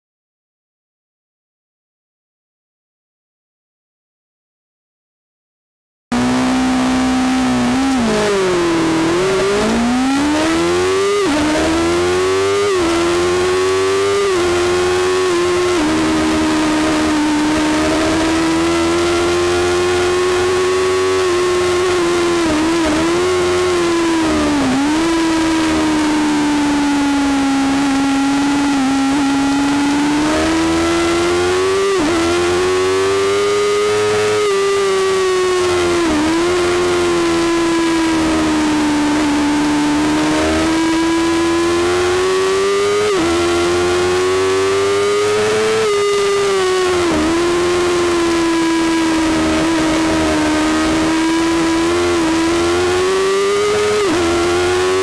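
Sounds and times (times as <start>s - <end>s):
motorcycle engine revving: 6.1s - 55.0s.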